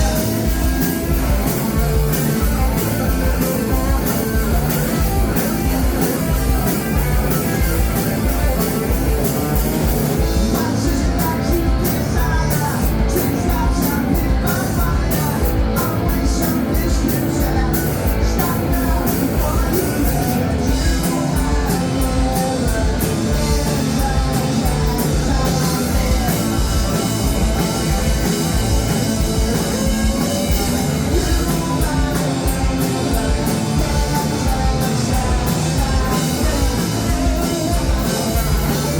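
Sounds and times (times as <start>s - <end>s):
person singing: 0.0s - 38.9s
rock band playing loud: 0.0s - 38.9s.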